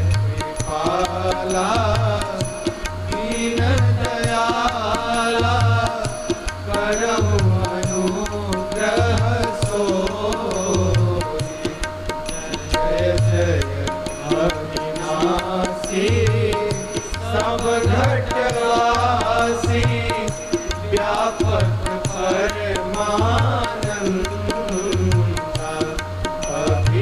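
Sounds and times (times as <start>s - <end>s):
sung melody over drone: 0.0s - 27.0s.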